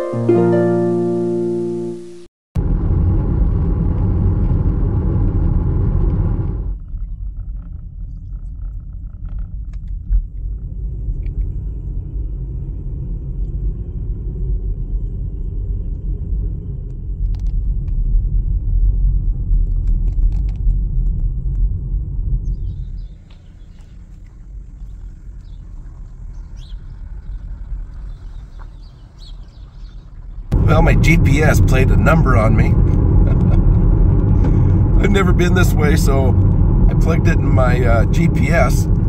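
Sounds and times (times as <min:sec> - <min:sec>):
car road and engine rumble: 0:02.6 - 0:39.0.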